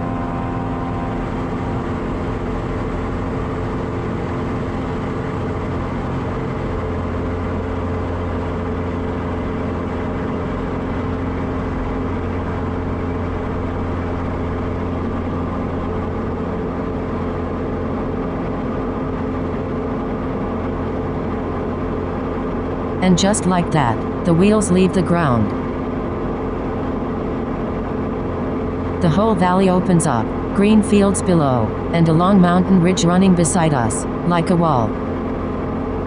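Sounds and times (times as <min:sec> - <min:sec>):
airplane propeller engine running: 0:00.0 - 0:36.0.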